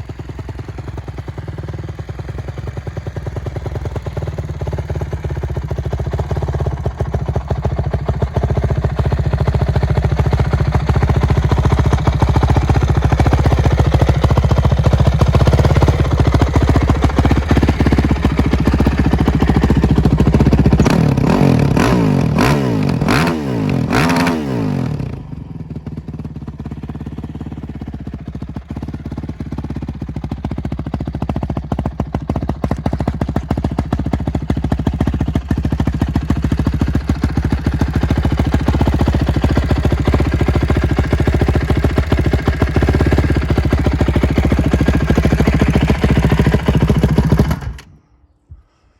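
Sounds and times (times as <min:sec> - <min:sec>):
motorcycle engine idling and revving: 0:00.0 - 0:48.2.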